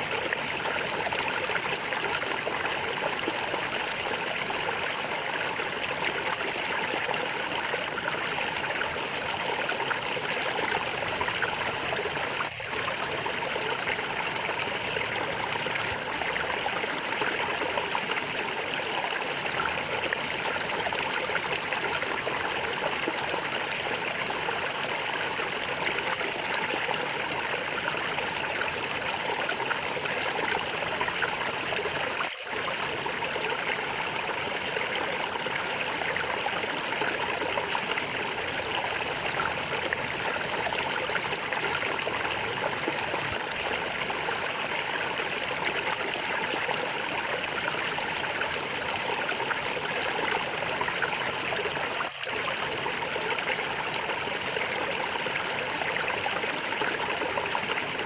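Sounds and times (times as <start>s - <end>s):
stream gurgling and trickling: 0.0s - 58.0s.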